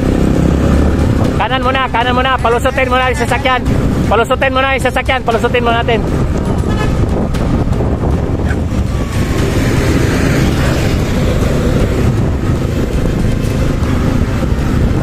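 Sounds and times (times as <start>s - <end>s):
vehicle engine rumble: 0.0s - 15.0s
wind buffeting microphone: 0.0s - 15.0s.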